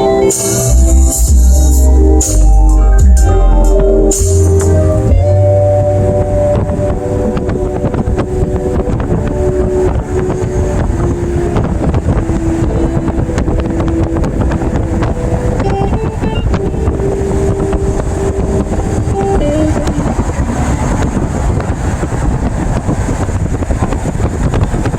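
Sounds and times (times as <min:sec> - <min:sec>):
instrumental song melody: 0:00.0 - 0:20.8
car road noise rumbling: 0:00.0 - 0:24.9
wind buffeting microphone: 0:00.0 - 0:24.9.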